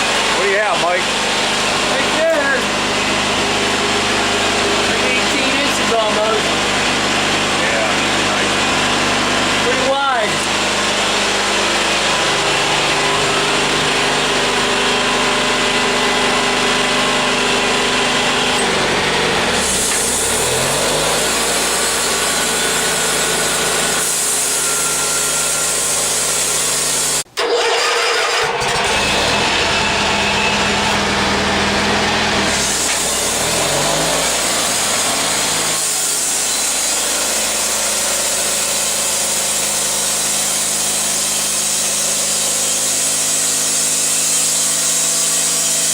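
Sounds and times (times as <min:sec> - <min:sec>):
band saw blade cutting log: 0:00.0 - 0:45.9
sawmill engine running: 0:00.0 - 0:45.9.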